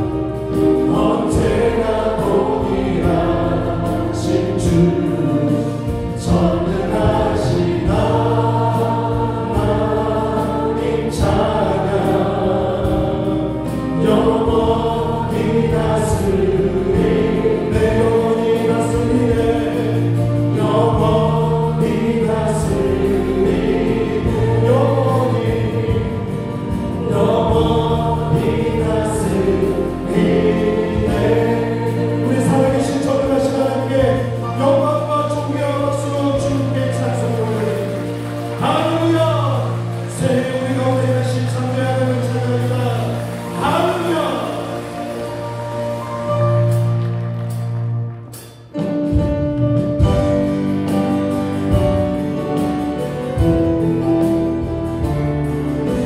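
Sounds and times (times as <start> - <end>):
voices singing together: 0.0 - 46.8
bass guitar: 0.0 - 56.0
drums with cymbals: 0.0 - 56.0
keyboards: 0.0 - 56.0.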